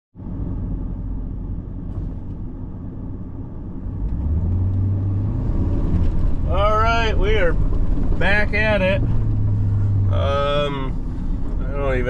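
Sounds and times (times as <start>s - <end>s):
truck engine rumbling: 0.2s - 12.0s.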